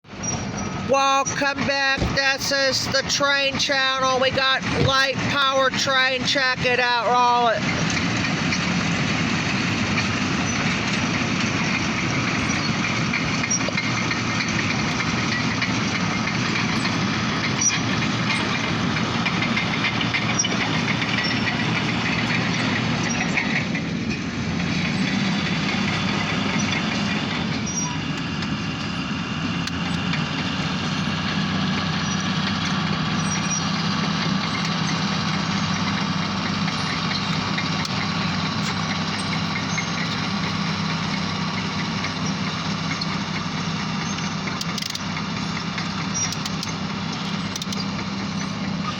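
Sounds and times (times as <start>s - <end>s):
diesel locomotive engine running: 0.0s - 48.9s.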